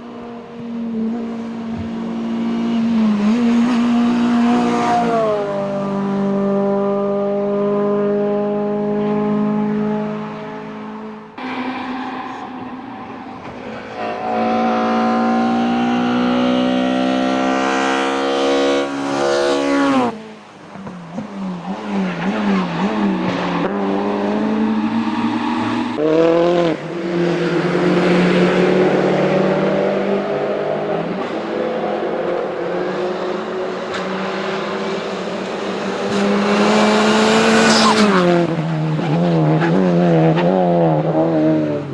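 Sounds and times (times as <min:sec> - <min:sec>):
race car engine accelerating: 0:01.0 - 0:20.2, 0:21.1 - 0:41.9.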